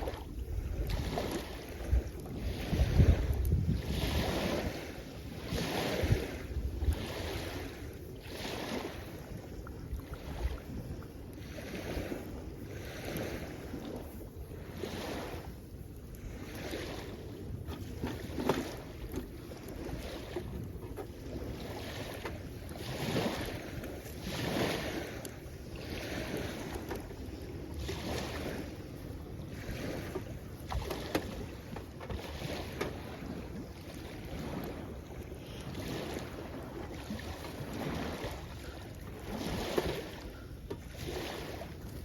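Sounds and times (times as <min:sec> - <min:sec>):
small waves washing onto shore: 0:00.0 - 0:42.0
wind rumble on microphone: 0:00.0 - 0:42.0.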